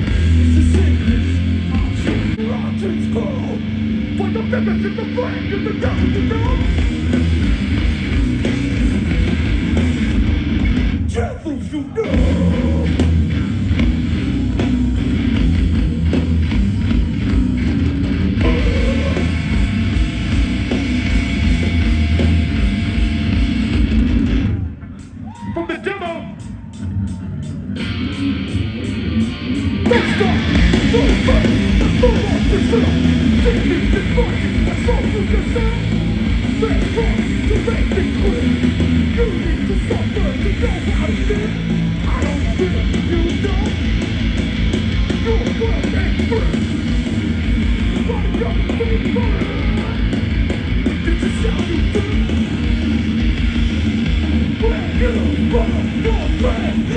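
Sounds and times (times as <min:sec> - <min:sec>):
pounding drum kit: 0:00.0 - 0:11.4, 0:12.0 - 0:56.9
bass guitar: 0:00.0 - 0:56.9
distorted electric guitars: 0:00.0 - 0:56.9.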